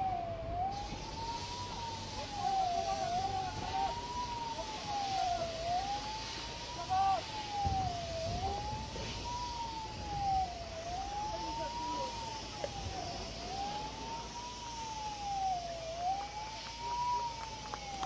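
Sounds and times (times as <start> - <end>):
wailing siren: 0.0 - 18.0.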